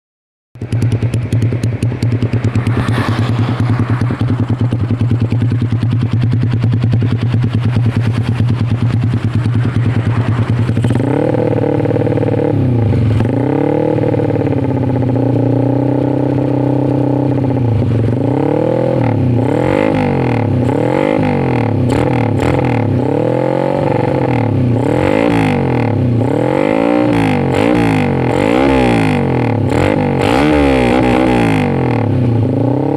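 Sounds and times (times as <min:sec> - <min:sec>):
motorcycle engine idling and revving: 0:00.6 - 0:32.9.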